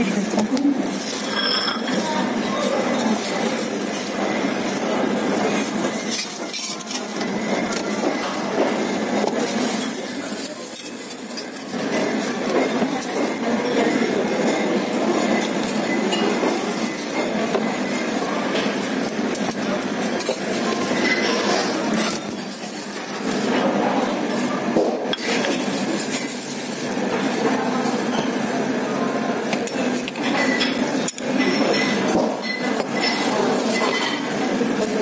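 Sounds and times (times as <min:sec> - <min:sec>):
dishes and cutlery clinking: 0:00.0 - 0:24.2, 0:25.0 - 0:28.6, 0:29.4 - 0:35.0
restaurant background noise: 0:00.0 - 0:35.0.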